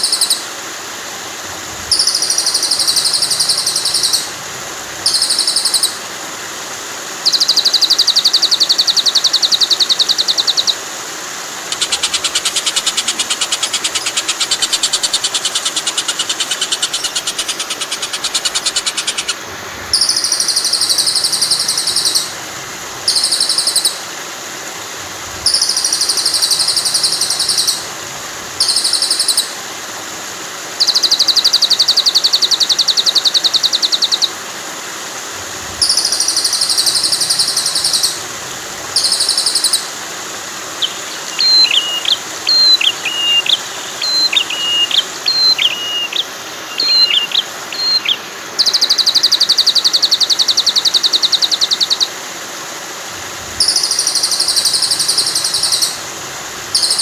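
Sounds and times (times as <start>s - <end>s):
flowing water hiss: 0.0s - 57.0s
songbirds buzzy trills: 0.0s - 57.0s.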